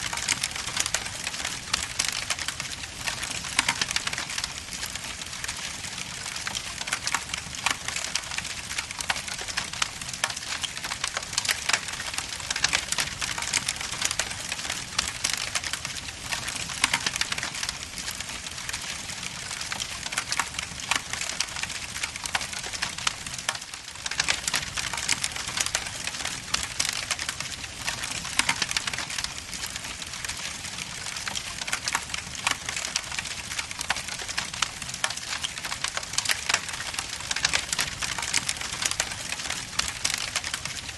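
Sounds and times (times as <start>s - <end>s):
logs crackling in fireplace: 0.0s - 40.9s.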